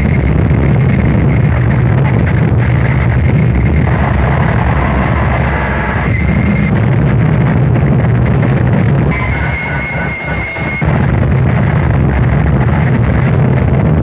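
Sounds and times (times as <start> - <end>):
thin high whine: 0.0 - 13.6
harsh distorted noise music: 0.0 - 14.0
heavy low rumble: 0.0 - 14.0.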